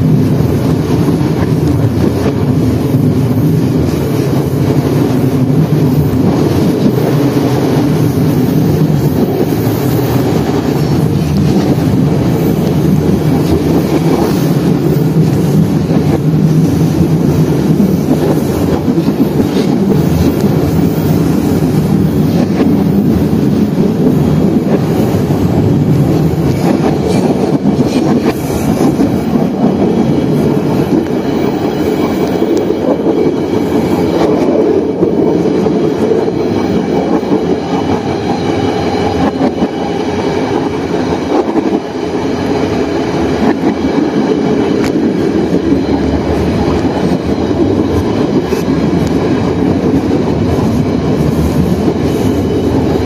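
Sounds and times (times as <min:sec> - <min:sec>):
diesel train running on rails: 0:00.0 - 0:53.0.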